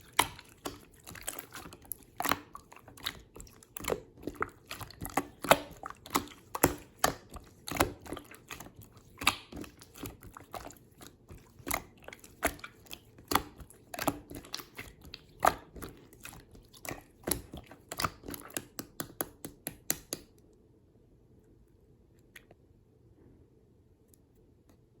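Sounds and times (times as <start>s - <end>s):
slime squished by hand: 0.0s - 20.3s.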